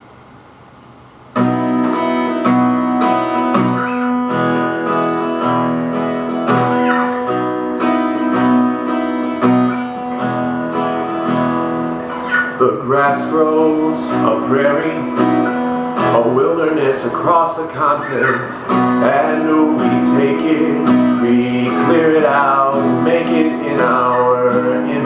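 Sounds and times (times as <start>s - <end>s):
guitar strumming chords: 1.3s - 25.0s.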